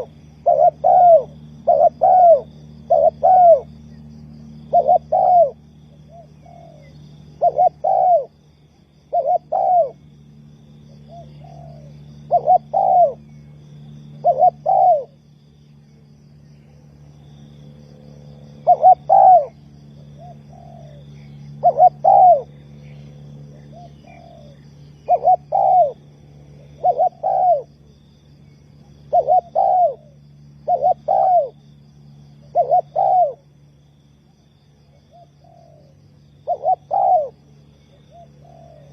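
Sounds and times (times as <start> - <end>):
dove cooing: 0.0 - 10.1, 10.9 - 15.2, 18.3 - 31.7, 32.3 - 33.5, 34.9 - 38.9
steady low hum: 0.0 - 38.9.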